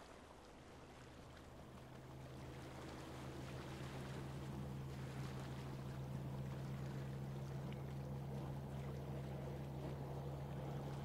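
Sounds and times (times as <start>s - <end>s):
lake water lapping: 0.0s - 11.0s
low hum: 0.5s - 11.0s.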